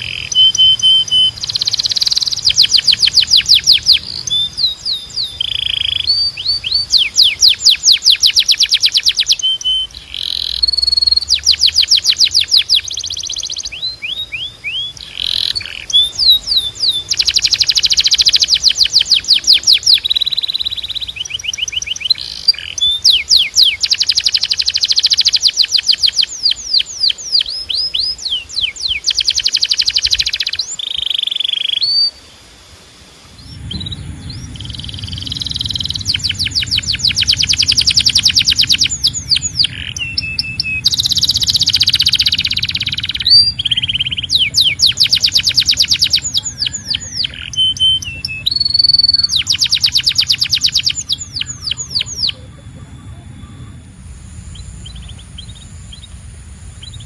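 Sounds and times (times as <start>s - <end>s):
canary singing: 0.0s - 32.2s, 33.3s - 57.0s.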